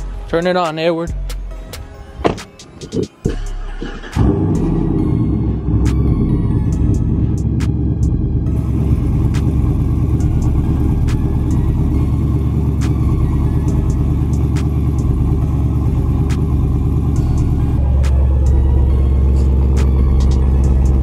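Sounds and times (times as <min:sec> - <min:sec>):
engine exhaust rumble: 0:01.7 - 0:21.0.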